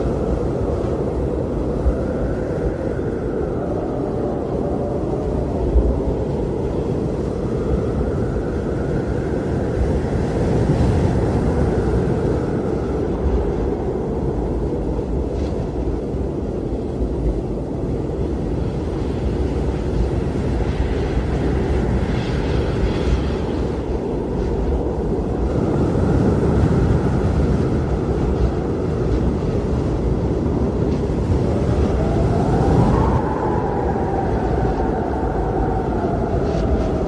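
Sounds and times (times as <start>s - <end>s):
blizzard wind roaring: 0.0s - 37.0s.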